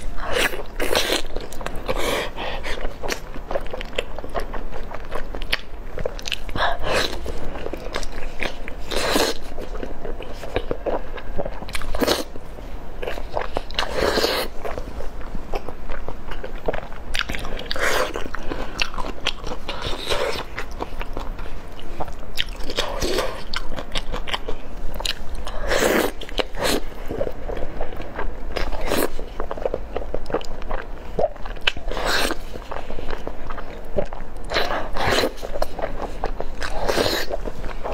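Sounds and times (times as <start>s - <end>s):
chewing with wet mouth clicks: 0.4s - 12.2s, 15.5s - 37.9s.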